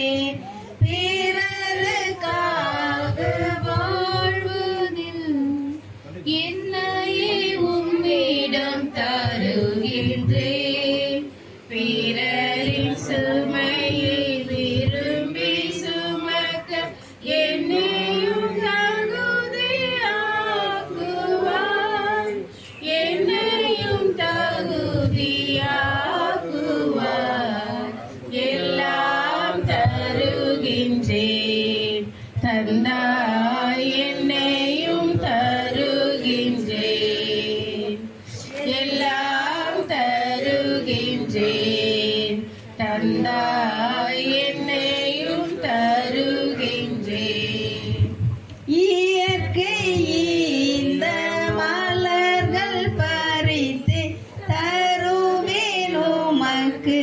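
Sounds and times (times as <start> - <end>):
choir singing a hymn: 1.4 - 4.8, 6.3 - 53.9, 54.5 - 57.0.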